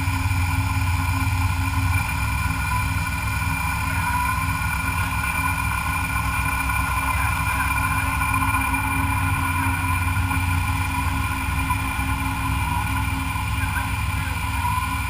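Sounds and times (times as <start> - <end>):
milling machine humming and whining: 0.0 - 15.0.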